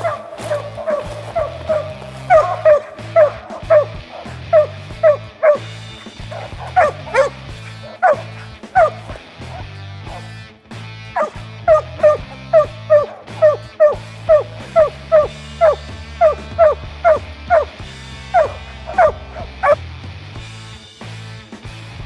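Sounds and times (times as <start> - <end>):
dog barking sharply: 0.0 - 9.2, 11.2 - 19.8
background music: 0.0 - 22.0.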